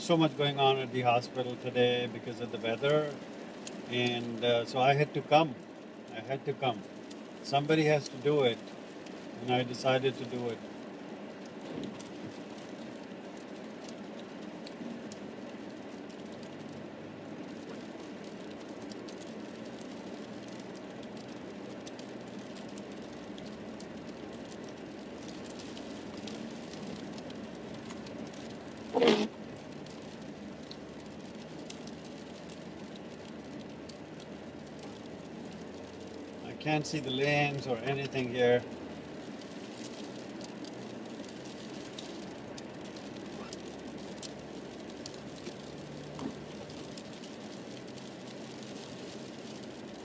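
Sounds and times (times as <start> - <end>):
car cabin road and engine noise: 0.0 - 50.0
faint ticks: 3.1 - 4.4, 5.5 - 50.0.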